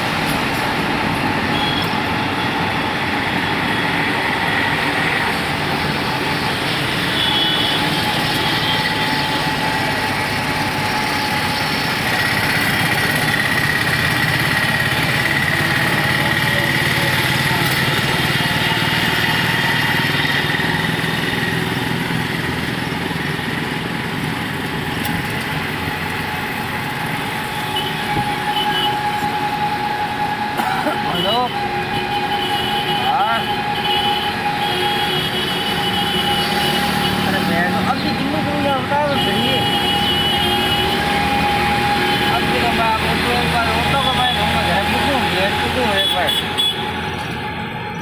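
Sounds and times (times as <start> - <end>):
auto-rickshaw engine running: 0.0 - 48.0
road noise: 0.0 - 48.0.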